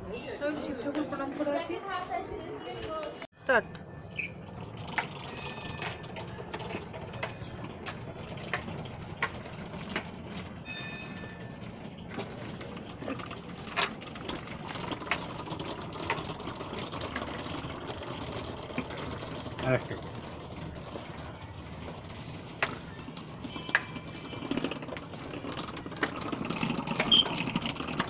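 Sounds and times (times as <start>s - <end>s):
prayer wheels knocking and rattling: 2.9s - 28.0s.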